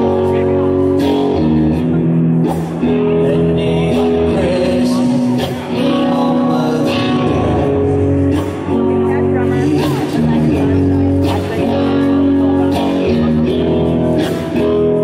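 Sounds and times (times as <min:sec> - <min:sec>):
electric guitar chords: 0:00.0 - 0:15.0
person singing: 0:00.0 - 0:15.0
rock band playing: 0:00.0 - 0:15.0.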